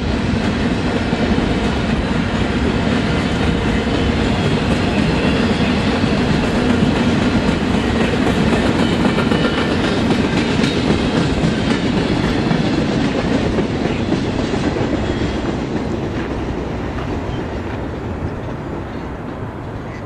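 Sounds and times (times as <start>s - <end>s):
train wheels rolling on track: 0.0s - 20.0s.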